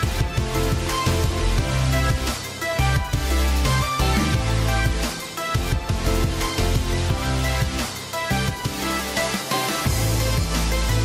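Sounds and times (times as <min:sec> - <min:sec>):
music with strong bass line: 0:00.0 - 0:11.0.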